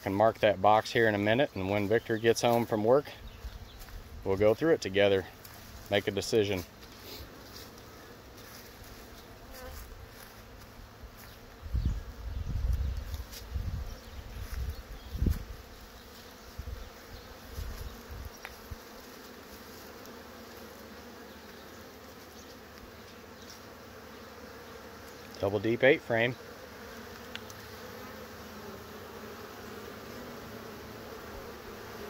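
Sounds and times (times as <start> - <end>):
honey bees buzzing: 0.0 - 32.0.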